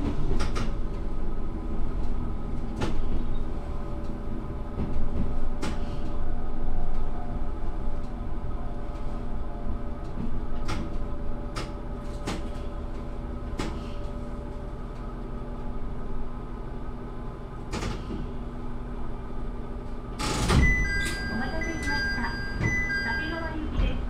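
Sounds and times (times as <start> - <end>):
railcar engine hum: 0.0 - 24.0.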